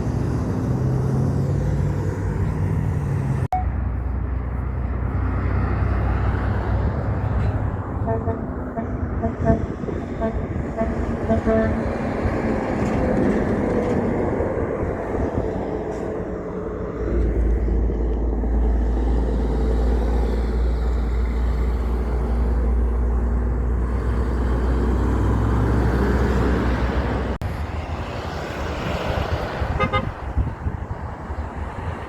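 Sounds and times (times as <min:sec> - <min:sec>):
diesel truck engine rumbling: 0:00.0 - 0:32.0
rough vehicle noise: 0:00.0 - 0:32.0.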